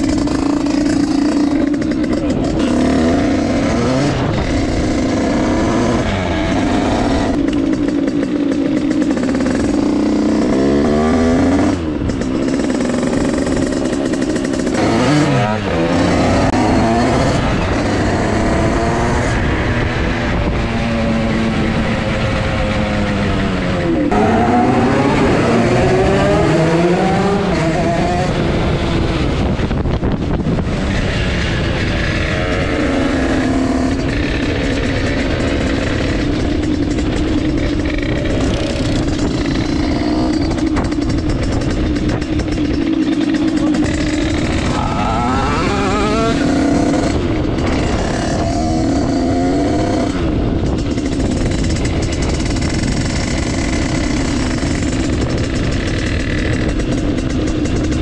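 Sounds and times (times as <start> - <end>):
another motorbike running: 0.0 - 58.0
low wind rumble: 0.0 - 58.0
two-stroke motorbike engine revving: 0.0 - 58.0.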